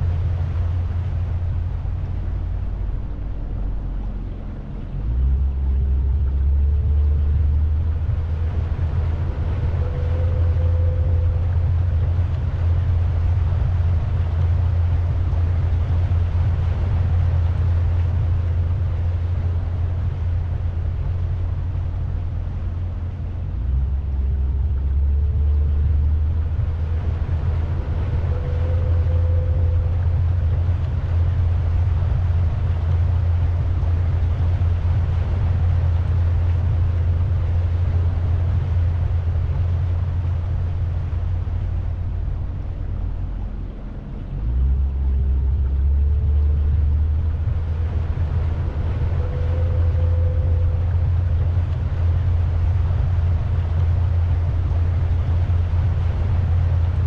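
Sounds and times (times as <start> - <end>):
boat motor rumble: 0.0 - 57.0
rush of air and water: 0.0 - 57.0.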